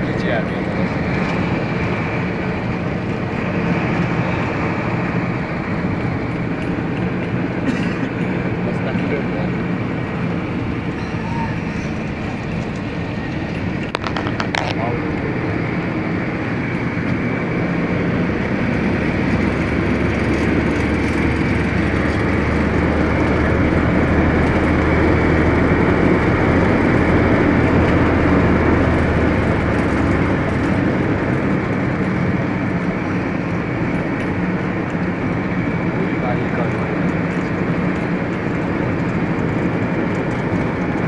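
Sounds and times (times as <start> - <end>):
vehicle cabin engine drone: 0.0 - 41.0.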